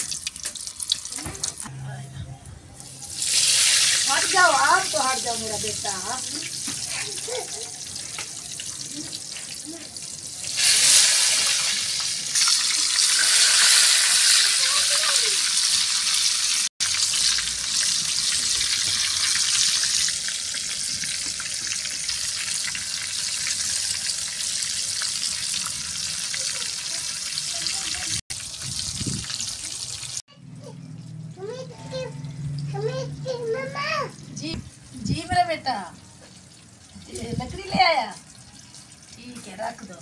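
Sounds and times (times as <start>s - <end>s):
food deep-frying in hot oil: 0.0s - 1.7s, 2.8s - 30.2s, 31.4s - 40.0s.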